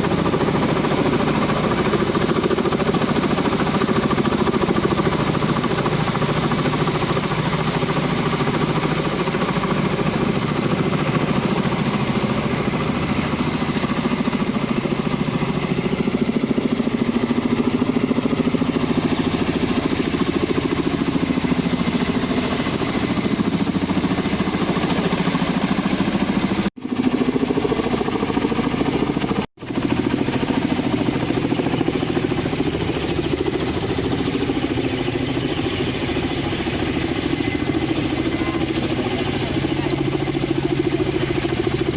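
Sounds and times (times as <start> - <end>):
helicopter engine noise: 0.0 - 41.9
helicopter rotor chop: 0.0 - 41.9.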